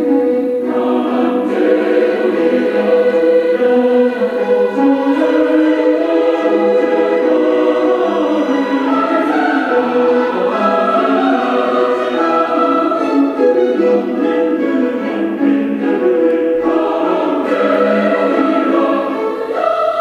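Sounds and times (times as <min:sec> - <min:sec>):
choir singing held notes: 0:00.0 - 0:20.0.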